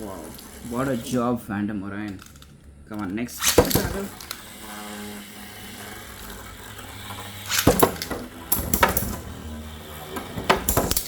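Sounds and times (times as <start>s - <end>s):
spinning tops clacking together: 2.0s - 11.0s.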